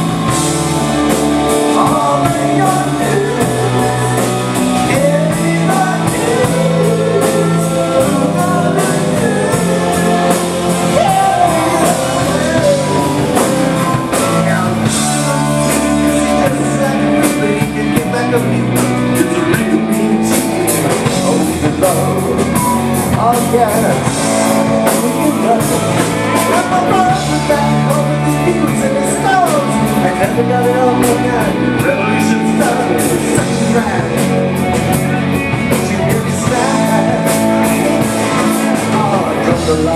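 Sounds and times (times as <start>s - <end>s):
electric guitar: 0.0s - 39.9s
live rock band playing: 0.0s - 39.9s
steady drum beat: 0.0s - 39.9s
male singer singing: 1.4s - 39.9s.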